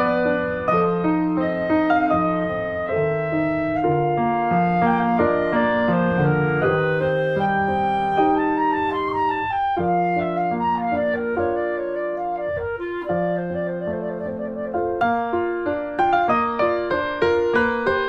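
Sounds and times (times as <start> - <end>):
slow instrumental melody: 0.0 - 16.8.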